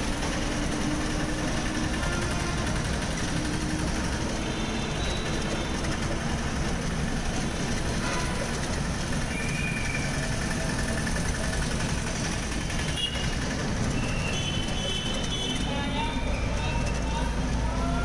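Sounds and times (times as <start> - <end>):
auto-rickshaw engine idling: 0.0 - 18.0
bus engine idling: 0.0 - 18.0.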